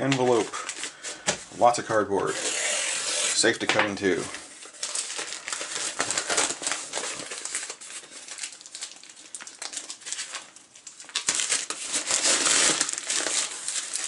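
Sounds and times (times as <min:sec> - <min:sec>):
plastic envelope crinkling: 0:00.0 - 0:14.0.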